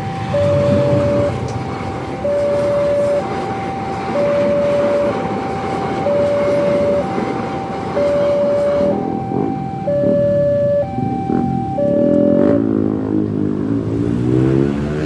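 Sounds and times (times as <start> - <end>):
two-tone crossing alarm: 0.0 - 13.1
passenger train rumbling past: 0.0 - 15.0.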